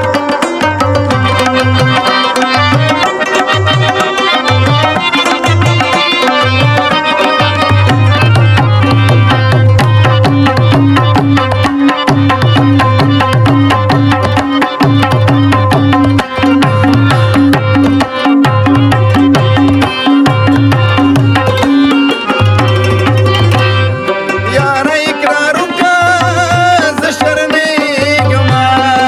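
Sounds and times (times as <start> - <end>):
harmonium chords: 0.0 - 29.0
tabla rhythm: 0.0 - 29.0.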